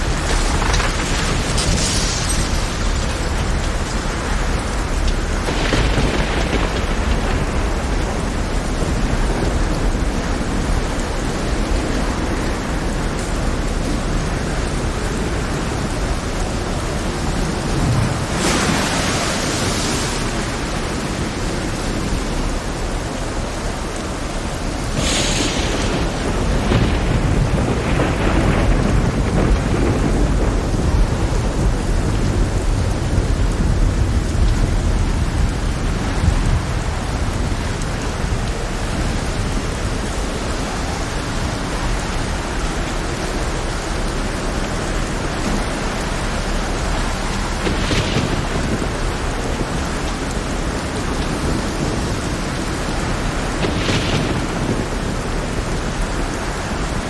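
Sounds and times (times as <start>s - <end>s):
heavy rain: 0.0s - 57.0s
low rolling thunder: 0.0s - 57.0s.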